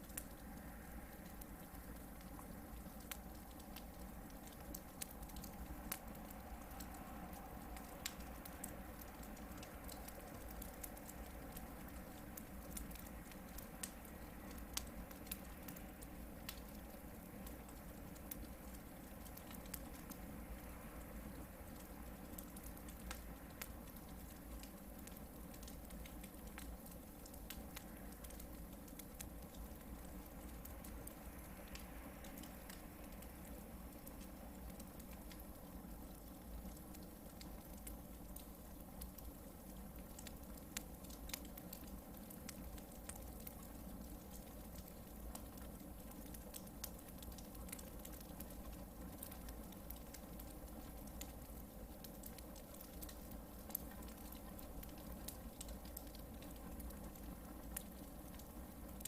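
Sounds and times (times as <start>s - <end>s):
campfire crackling and popping: 0.0s - 59.0s
fire low rumble: 0.0s - 59.0s.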